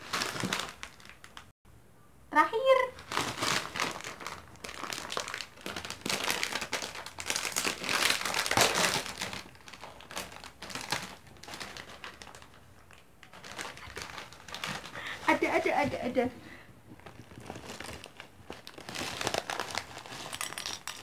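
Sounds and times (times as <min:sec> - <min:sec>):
plastic snack bag crinkling: 0:00.0 - 0:01.5, 0:03.0 - 0:15.9, 0:16.9 - 0:21.0.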